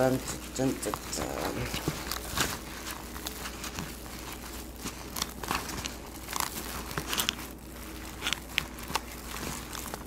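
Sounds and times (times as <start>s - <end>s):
food packaging crinkling: 0.0s - 10.0s.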